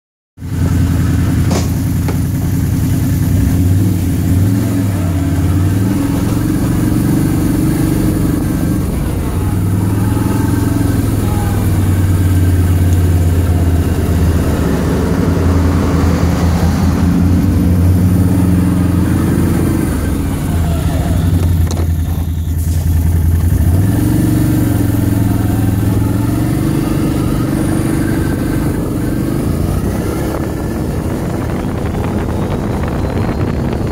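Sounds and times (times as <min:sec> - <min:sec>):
atv engine revving: 0:00.4 - 0:33.9.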